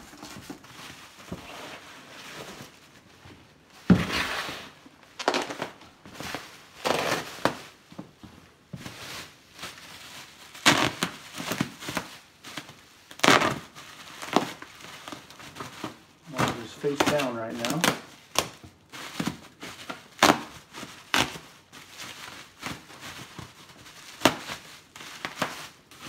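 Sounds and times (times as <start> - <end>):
bubble wrap crinkling: 0.0 - 26.0.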